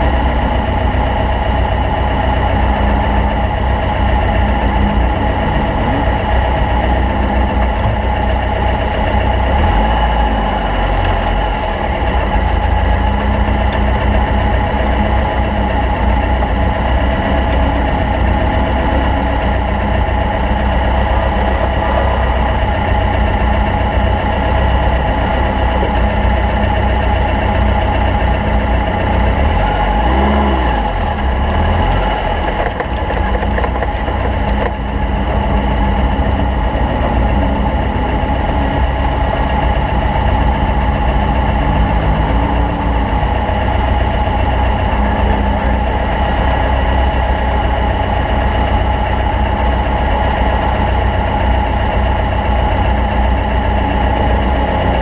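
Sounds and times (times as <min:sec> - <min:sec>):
heavy low rumble: 0:00.0 - 0:55.0
race car engine revving: 0:00.0 - 0:55.0.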